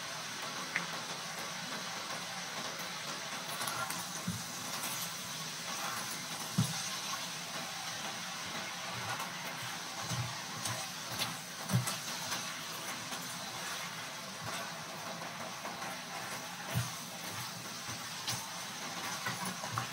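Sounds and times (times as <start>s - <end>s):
chicken feet sizzling in a pan: 0.0s - 19.9s.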